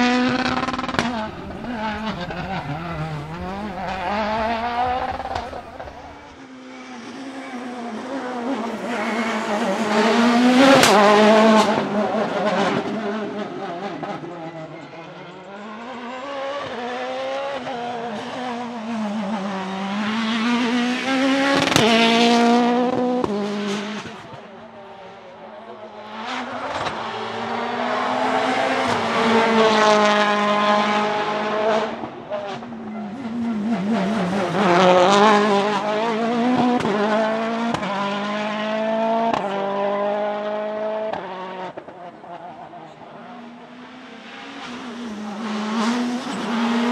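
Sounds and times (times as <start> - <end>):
rally car engine passing: 0.0 - 46.9.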